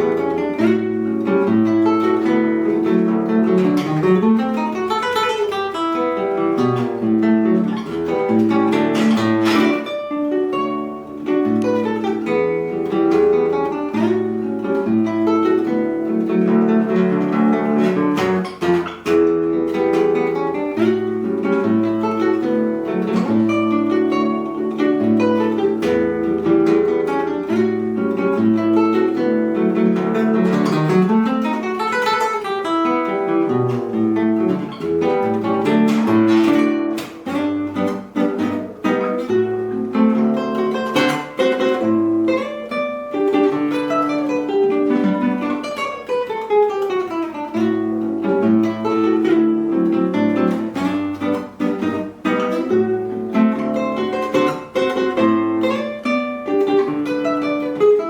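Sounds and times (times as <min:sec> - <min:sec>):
acoustic guitar solo: 0:00.0 - 0:58.0.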